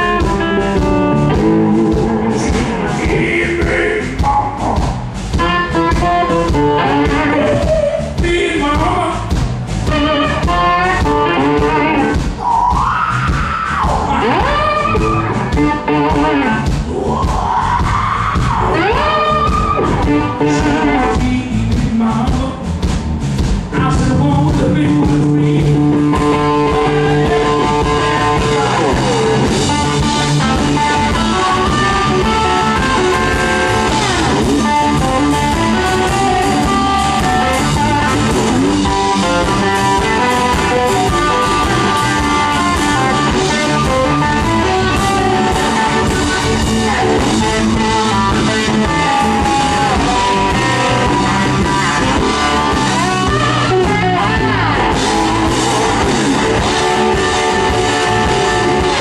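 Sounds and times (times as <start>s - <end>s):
electric guitar lead notes: 0.0s - 21.8s, 23.6s - 59.0s
bass and drums: 0.0s - 59.0s.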